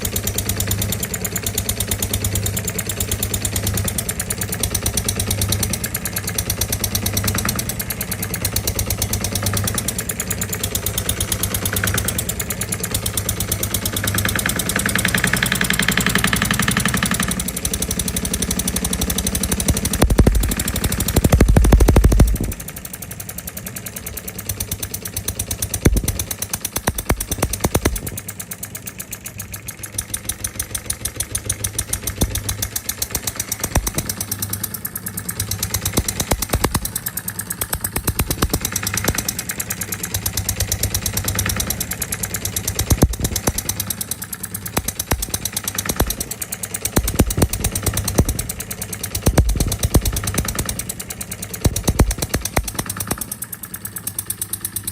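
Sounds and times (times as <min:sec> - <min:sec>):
small diesel engine running: 0:00.0 - 0:54.9.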